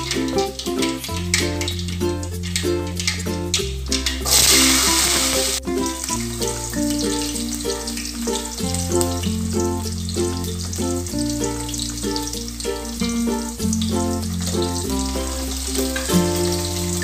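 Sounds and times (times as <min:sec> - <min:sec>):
background music with bass: 0:00.0 - 0:17.0
garlic sizzling in hot oil: 0:00.0 - 0:17.0.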